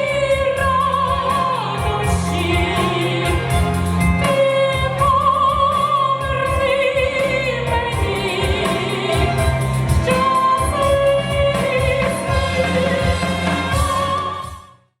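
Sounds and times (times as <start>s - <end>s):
woman singing live: 0.0s - 14.8s
instrumental accompaniment: 0.0s - 15.0s.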